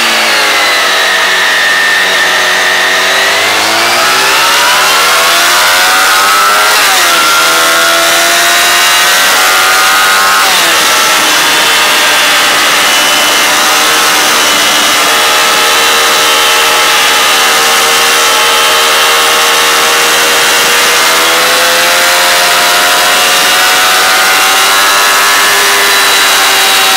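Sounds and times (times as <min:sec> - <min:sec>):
motorcycle engine at speed: 0:00.0 - 0:26.9
wind and road noise: 0:00.1 - 0:26.9.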